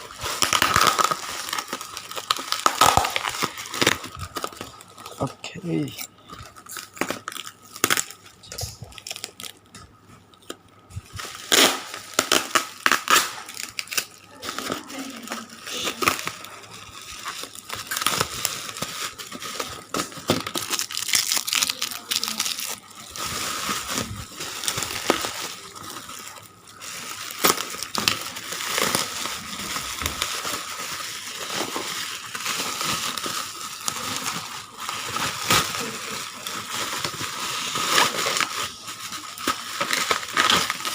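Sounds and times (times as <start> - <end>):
packaging crinkling and tearing: 0.0 - 40.9.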